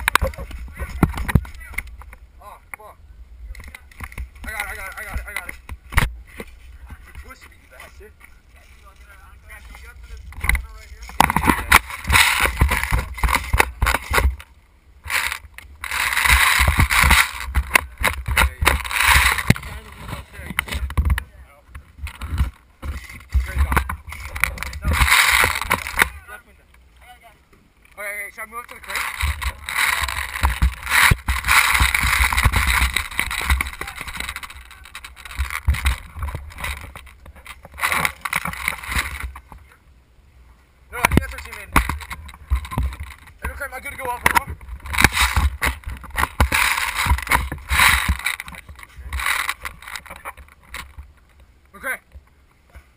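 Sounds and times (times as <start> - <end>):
rustling: 0.0 - 39.8, 40.4 - 52.9.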